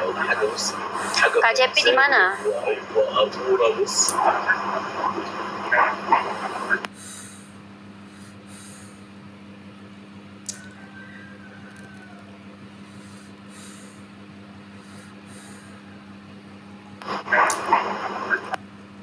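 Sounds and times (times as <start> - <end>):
low hum inside train carriage: 0.0 - 19.0.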